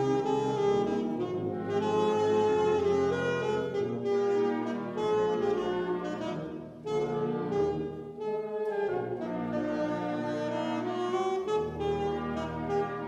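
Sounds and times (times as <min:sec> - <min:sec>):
wind band playing chords: 0:00.0 - 0:13.0.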